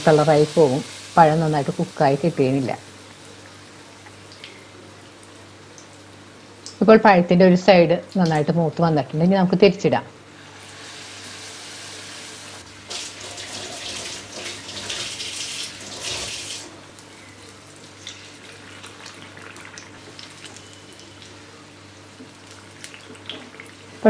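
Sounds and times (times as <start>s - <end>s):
hot oil sizzling: 0.0s - 6.8s, 10.4s - 24.0s.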